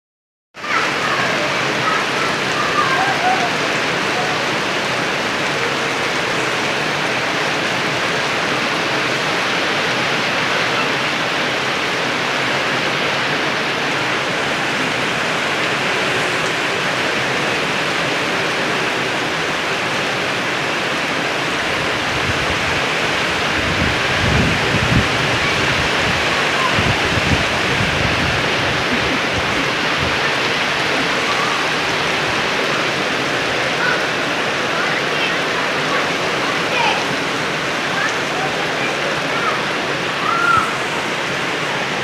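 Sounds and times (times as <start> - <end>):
heavy rain hissing: 0.6 - 42.0.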